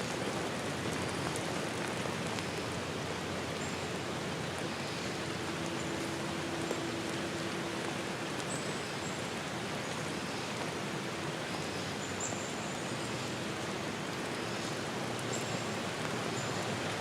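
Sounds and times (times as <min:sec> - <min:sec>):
rushing forest ambience hiss: 0:00.0 - 0:17.0.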